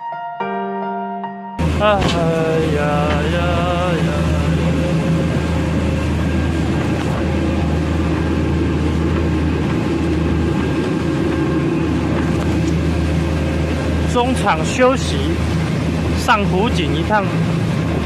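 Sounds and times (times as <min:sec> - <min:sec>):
boat engine drone: 0:00.0 - 0:18.0
rushing water: 0:01.6 - 0:18.0
wind: 0:01.6 - 0:18.0.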